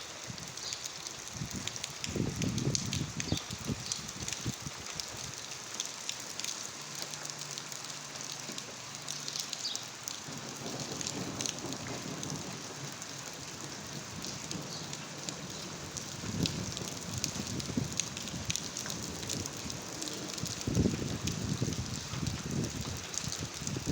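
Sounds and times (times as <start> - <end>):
rain patter: 0.0 - 23.9.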